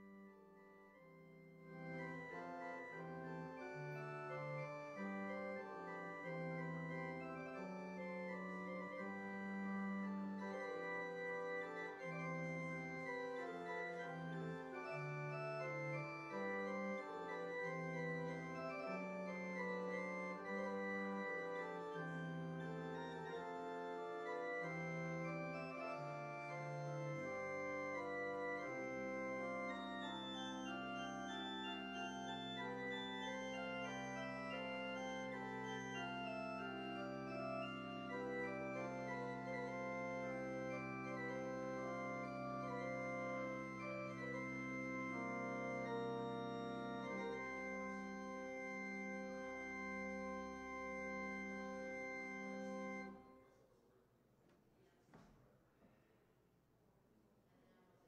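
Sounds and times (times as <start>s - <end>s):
organ playing slow chords: 0.0s - 53.5s.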